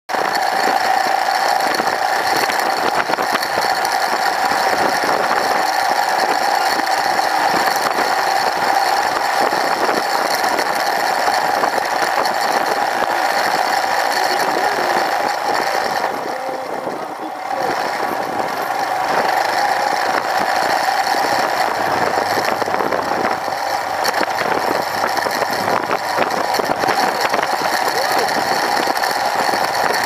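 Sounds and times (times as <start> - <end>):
motorcycle engine running: 0.1 - 30.0.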